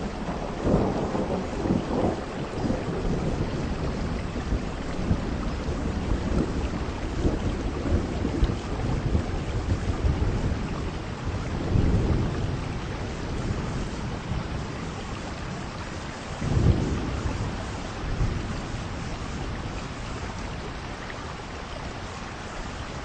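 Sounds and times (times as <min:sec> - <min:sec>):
heavy rain: 0:00.0 - 0:23.0
wind: 0:00.0 - 0:23.0.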